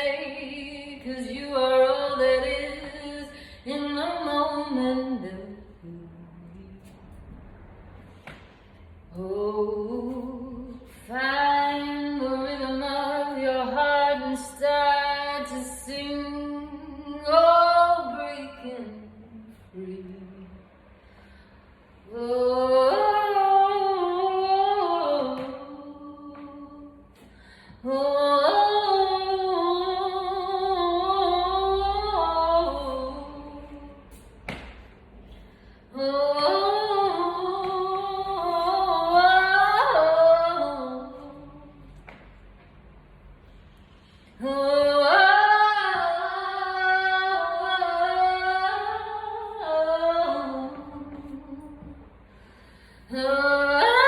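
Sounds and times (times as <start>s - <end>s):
woman singing wordless melody: 0.0s - 6.9s, 9.1s - 20.7s, 22.0s - 27.2s, 27.8s - 34.2s, 35.9s - 41.9s, 44.4s - 52.0s, 53.1s - 54.0s.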